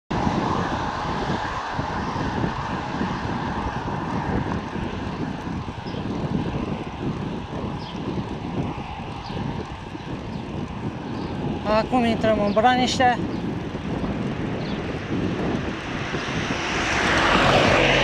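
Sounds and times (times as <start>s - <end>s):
wind rushing over microphone: 0.1s - 18.0s.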